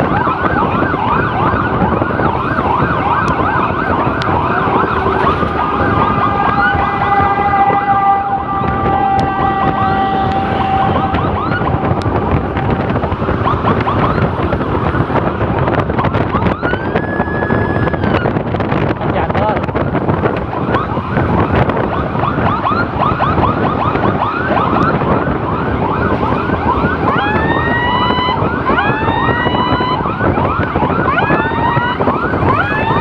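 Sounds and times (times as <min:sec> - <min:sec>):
emergency sirens yelping: 0:00.0 - 0:33.0
road noise: 0:00.0 - 0:33.0
steady siren tones: 0:00.0 - 0:33.0.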